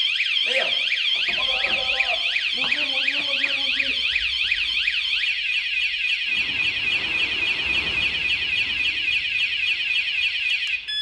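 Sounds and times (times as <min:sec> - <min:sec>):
warbling alarm siren: 0:00.0 - 0:11.0.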